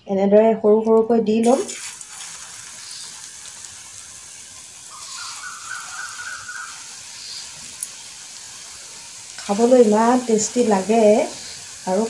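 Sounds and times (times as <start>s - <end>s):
batter sizzling in hot oil: 1.4s - 12.0s.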